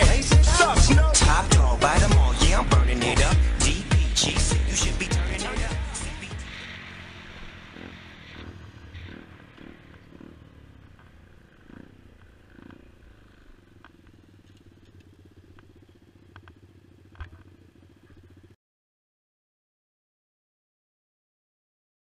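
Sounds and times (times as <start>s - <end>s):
small motorcycle engine running: 0.0s - 18.6s.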